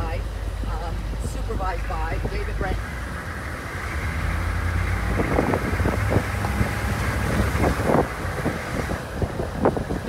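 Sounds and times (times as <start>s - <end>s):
vehicle driving: 0.0s - 10.0s
wind buffeting microphone: 0.0s - 10.0s.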